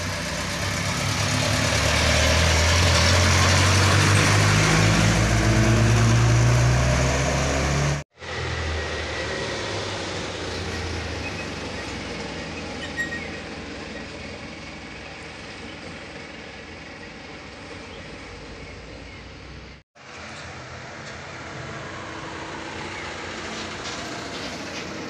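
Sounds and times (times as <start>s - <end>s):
diesel truck engine pulling hard: 0.0s - 25.0s
distant vehicle engines: 0.0s - 25.0s.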